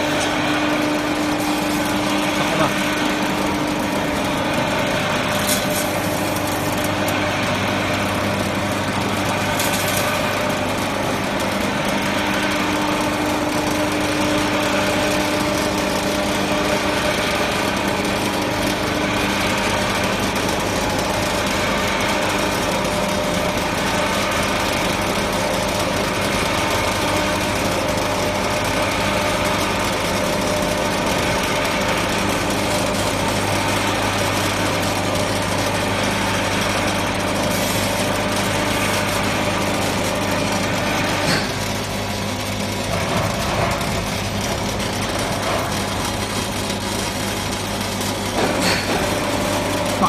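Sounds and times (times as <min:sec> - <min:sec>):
oil press mechanical hum: 0:00.0 - 0:50.0.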